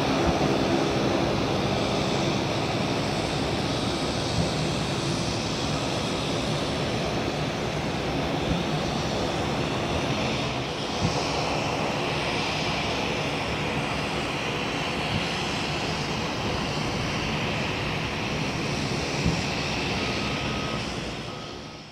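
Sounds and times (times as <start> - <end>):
jet engines roaring at takeoff: 0.0 - 21.9.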